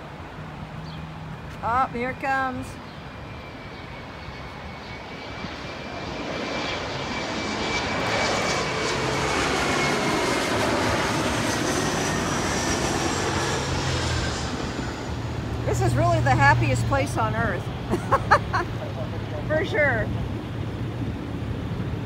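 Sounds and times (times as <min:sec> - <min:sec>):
high engine whine: 0:00.0 - 0:22.0
jet airliner passing overhead: 0:00.0 - 0:22.0.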